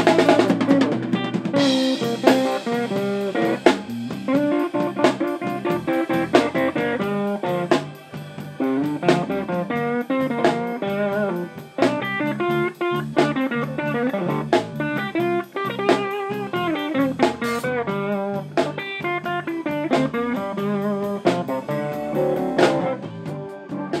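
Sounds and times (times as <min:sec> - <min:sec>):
bass guitar: 0:00.0 - 0:24.0
drum kit beat: 0:00.0 - 0:24.0
electric guitar lead lines: 0:00.0 - 0:24.0.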